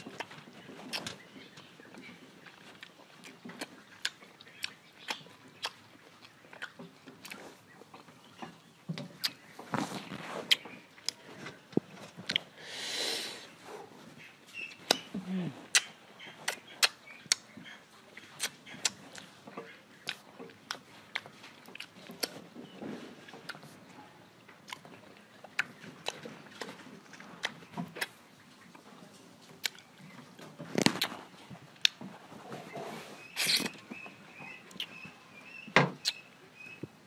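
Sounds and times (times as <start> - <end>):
mouth chewing and smacking: 0.0 - 12.6, 14.2 - 37.0.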